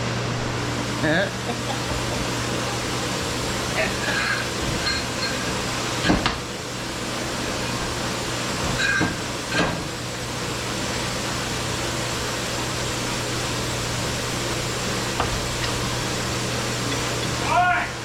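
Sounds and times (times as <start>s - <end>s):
shop machinery hum and hiss: 0.0s - 18.0s.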